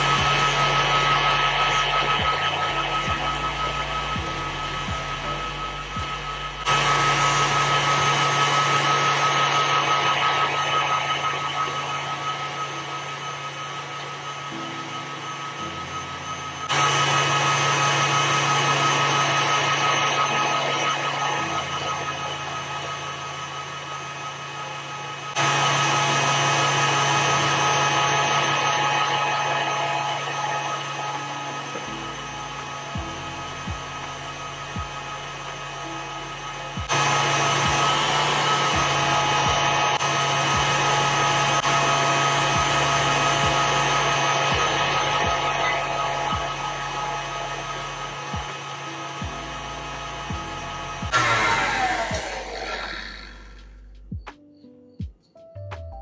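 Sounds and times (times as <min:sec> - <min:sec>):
stand mixer motor whirring: 0:00.0 - 0:53.6.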